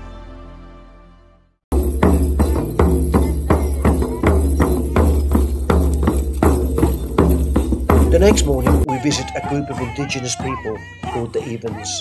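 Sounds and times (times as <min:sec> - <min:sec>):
frame drums beaten with sticks: 0:01.7 - 0:12.0.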